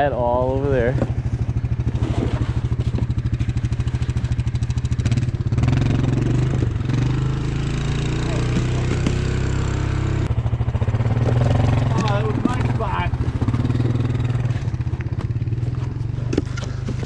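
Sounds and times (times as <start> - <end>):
small engine running at low speed: 0.0 - 17.0.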